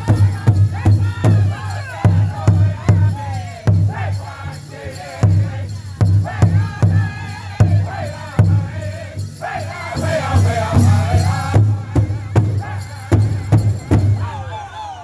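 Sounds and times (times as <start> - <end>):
big hand drum beat: 0.0 - 14.3
voices singing in unison: 0.0 - 15.0.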